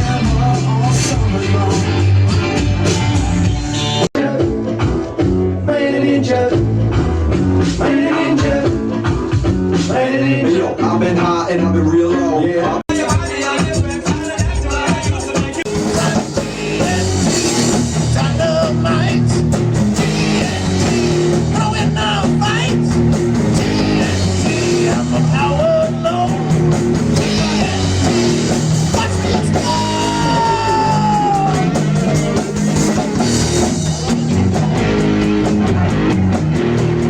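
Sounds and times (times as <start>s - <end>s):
rock band playing: 0.0s - 37.0s.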